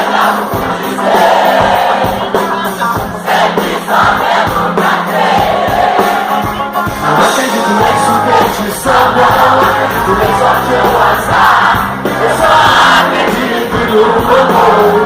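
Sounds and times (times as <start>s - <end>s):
audience cheering and singing: 0.0s - 15.0s
live pop-rock band playing: 0.0s - 15.0s.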